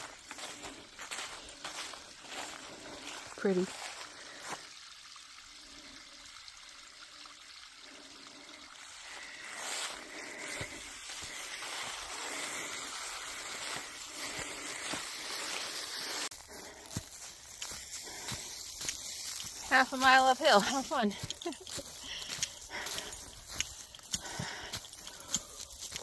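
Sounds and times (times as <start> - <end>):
creek trickling: 0.0 - 26.0.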